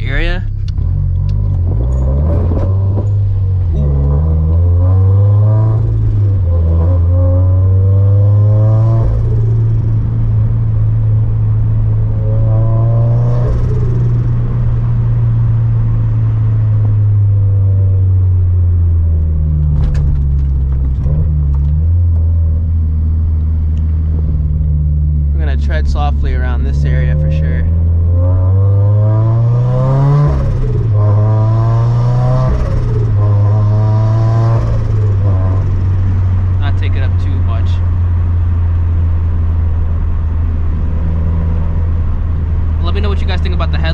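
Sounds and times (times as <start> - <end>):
engine revving: 0.0 - 39.0, 40.0 - 43.9
car exhaust drone: 0.0 - 43.9.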